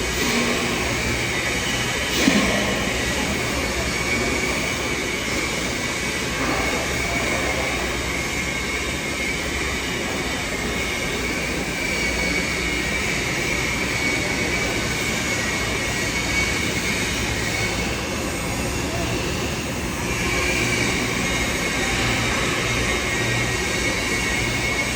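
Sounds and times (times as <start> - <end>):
thin steady whine: 0.0 - 24.9
welding hiss and hum: 0.0 - 24.9.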